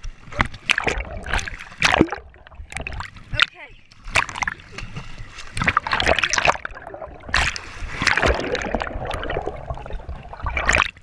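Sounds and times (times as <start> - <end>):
camera underwater: 0.0 - 11.0
seawater splashing: 0.0 - 11.0.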